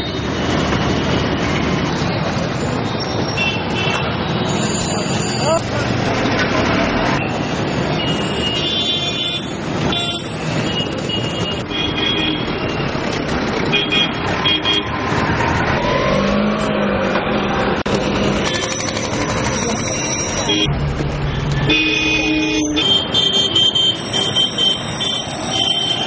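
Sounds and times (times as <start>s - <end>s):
motorcycle and vehicle engines: 0.0s - 26.0s.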